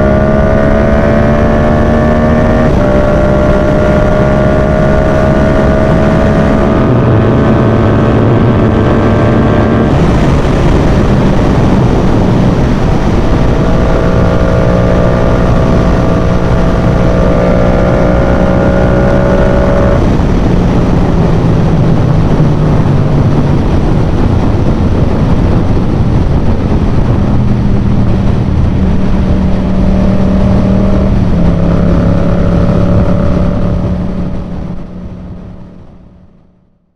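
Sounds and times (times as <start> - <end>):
motorcycle engine running: 0.0 - 36.2
wind and road noise: 0.0 - 36.9.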